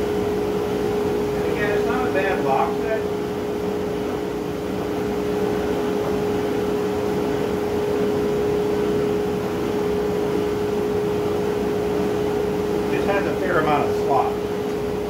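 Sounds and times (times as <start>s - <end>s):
motor humming with pitched tone: 0.0s - 15.0s.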